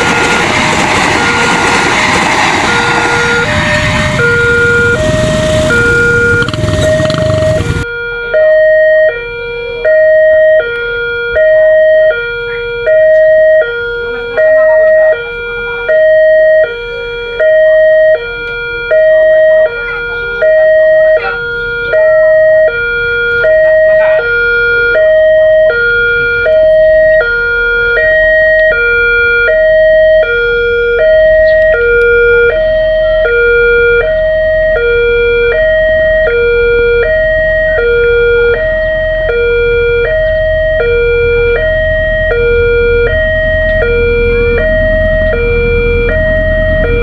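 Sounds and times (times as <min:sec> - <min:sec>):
level crossing siren two-tone alarm: 0:00.0 - 0:47.0.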